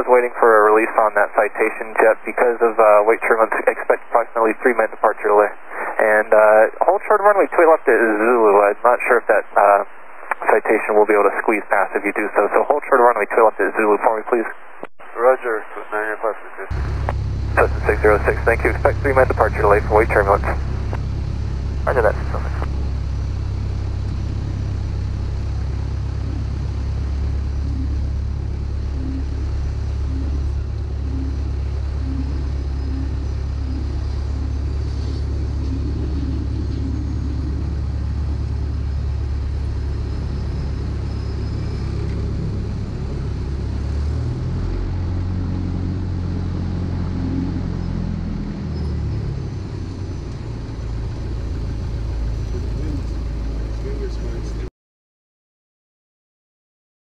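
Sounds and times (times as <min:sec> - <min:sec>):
light aircraft engine idling: 0:00.0 - 0:14.5, 0:15.2 - 0:54.7.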